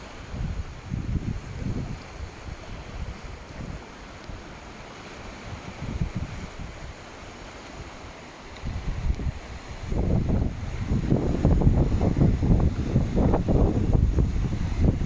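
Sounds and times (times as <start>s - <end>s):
wind buffeting microphone: 0.0s - 7.0s, 8.6s - 15.0s
sea surf washing: 0.0s - 15.0s.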